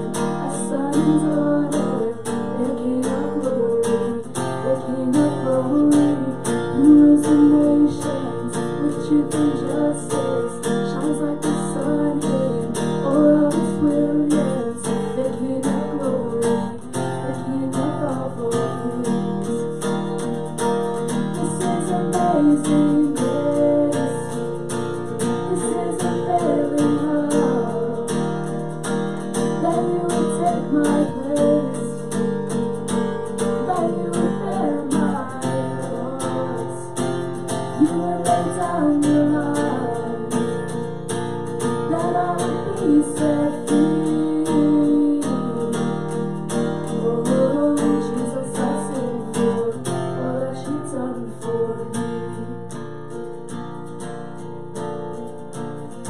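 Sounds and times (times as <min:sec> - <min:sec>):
woman singing: 0:00.0 - 0:52.8
acoustic guitar strummed: 0:00.0 - 0:56.0.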